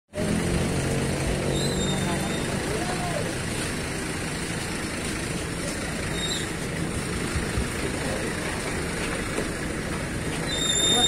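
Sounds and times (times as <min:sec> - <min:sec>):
vehicle engines idling: 0:00.1 - 0:11.0.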